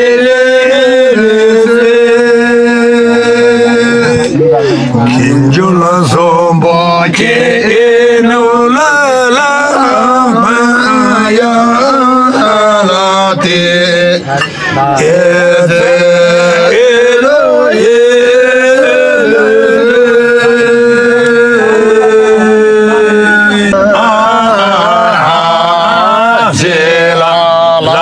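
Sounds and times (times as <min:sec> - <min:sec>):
men singing unaccompanied: 0:00.0 - 0:28.0.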